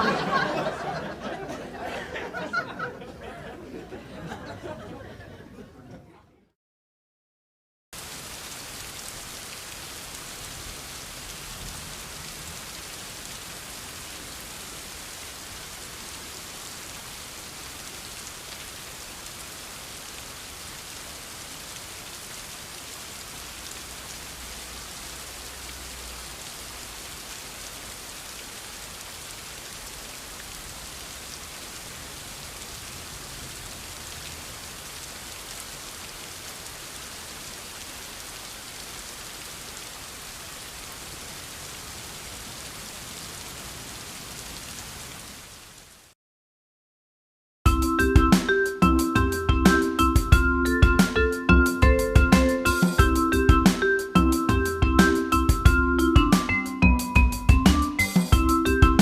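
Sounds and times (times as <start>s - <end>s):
steady rain: 0.0s - 4.8s, 8.0s - 46.2s, 48.1s - 59.0s.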